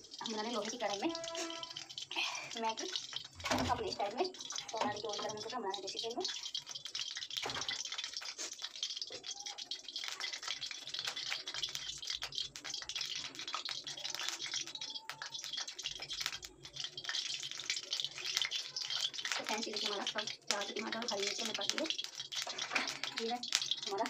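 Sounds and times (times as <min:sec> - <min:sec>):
spices sizzling in hot oil: 0:00.0 - 0:24.0.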